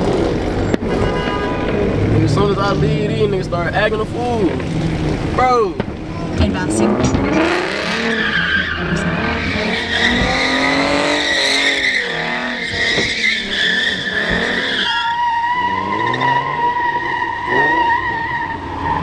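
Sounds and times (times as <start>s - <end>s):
car tyres squealing: 0.0s - 19.0s
engines revving: 0.0s - 19.0s.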